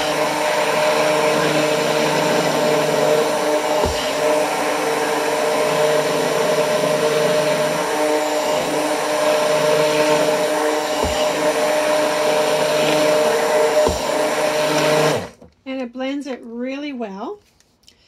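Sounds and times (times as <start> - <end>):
immersion blender whirring: 0.0 - 15.5.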